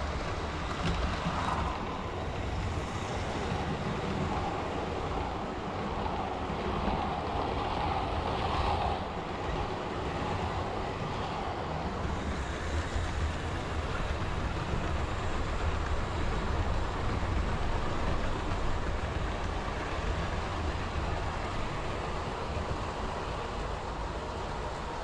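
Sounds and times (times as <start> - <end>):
model train rumbling on track: 0.0 - 25.0.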